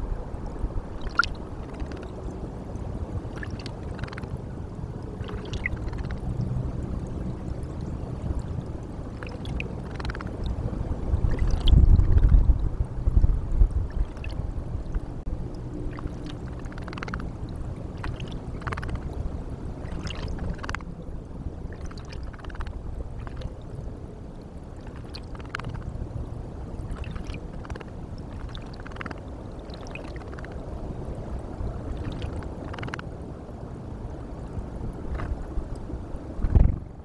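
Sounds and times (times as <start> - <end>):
low rushing background: 0.0 - 37.0.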